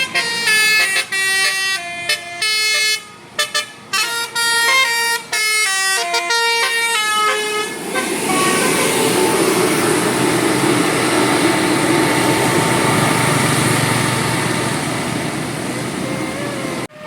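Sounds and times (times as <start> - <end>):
bus passing by: 0.0 - 17.0.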